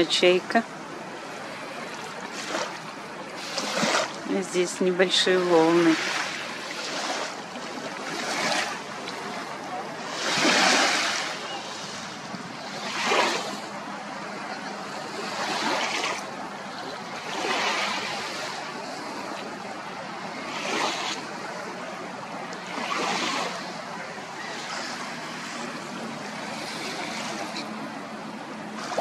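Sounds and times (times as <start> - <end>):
small waves washing onto beach: 0.0 - 29.0.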